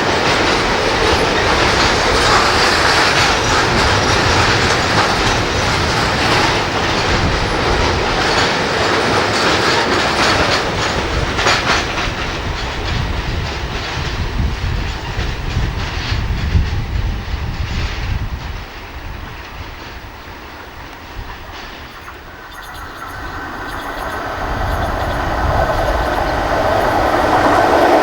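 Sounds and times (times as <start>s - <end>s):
train wheels clacking over rail joints: 0.0s - 28.0s.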